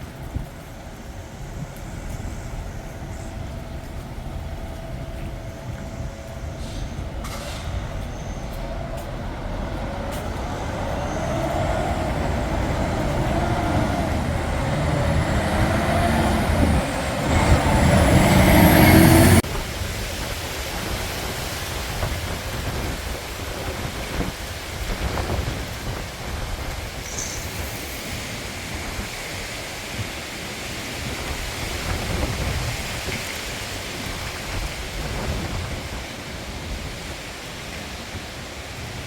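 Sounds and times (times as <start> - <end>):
storm wind buffeting microphone: 0.0 - 39.0.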